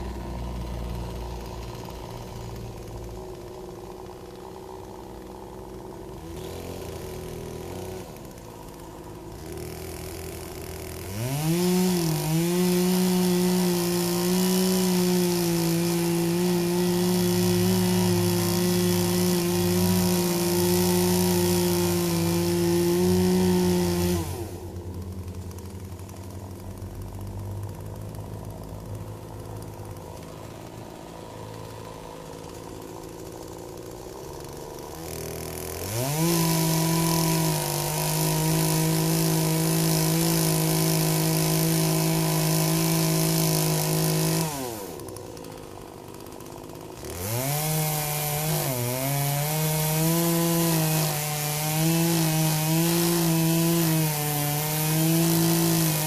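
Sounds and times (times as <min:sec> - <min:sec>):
chainsaw cutting tree stump: 0:00.0 - 0:56.0
chainsaw idling and revving: 0:00.0 - 0:56.0.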